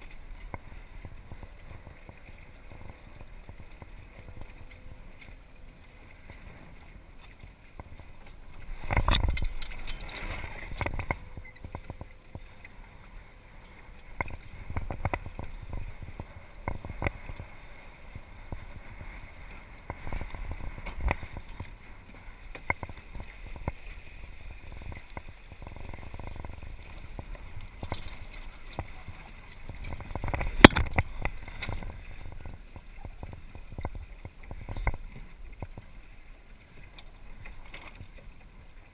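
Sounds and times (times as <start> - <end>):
knocks from hull and rigging: 0.0 - 12.8, 13.6 - 17.5, 18.5 - 35.9
water lapping against hull: 0.0 - 38.9
wind on microphone: 0.0 - 38.9.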